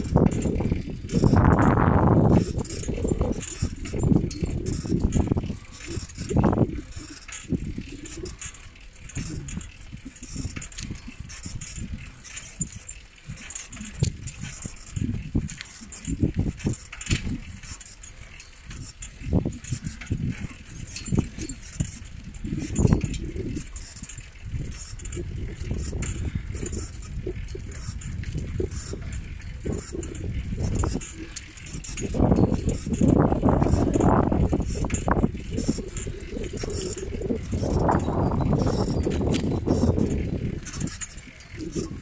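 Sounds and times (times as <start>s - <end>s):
light rattling clicks: 0.0s - 42.0s
wind rumbling: 0.0s - 42.0s.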